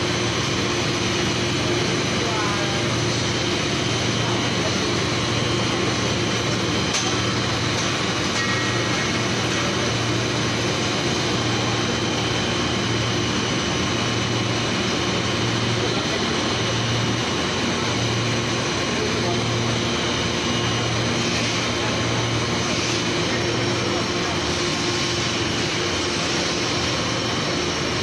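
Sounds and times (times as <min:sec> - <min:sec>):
machine drone with low hum: 0:00.0 - 0:28.0.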